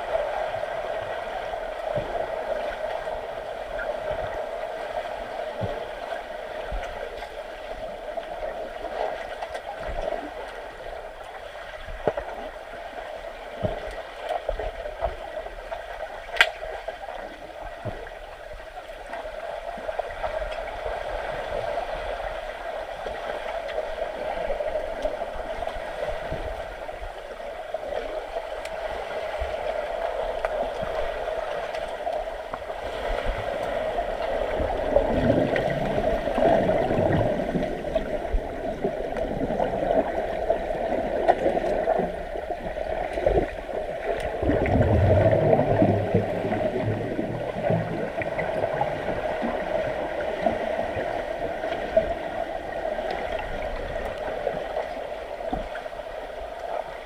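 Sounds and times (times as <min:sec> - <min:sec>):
pool water churning: 0:00.0 - 0:57.0.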